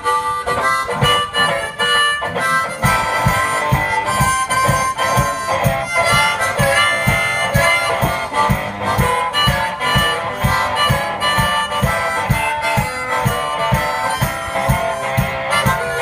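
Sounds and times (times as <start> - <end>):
guitar: 0.0 - 16.0
harmonica melody: 0.0 - 16.0
steady low drum beat: 0.0 - 16.0.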